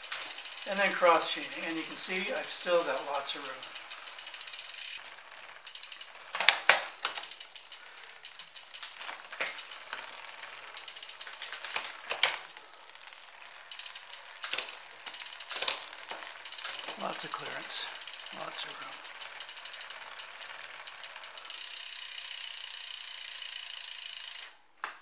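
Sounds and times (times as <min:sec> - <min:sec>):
bicycle chain clicks: 0:00.0 - 0:25.0
bicycle freehub ticking: 0:00.0 - 0:25.0.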